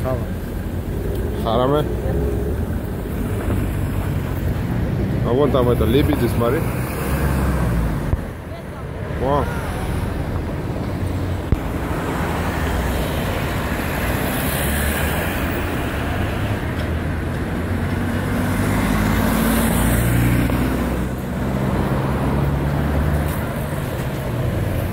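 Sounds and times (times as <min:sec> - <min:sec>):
cars passing with tyre hiss: 0:00.0 - 0:24.9.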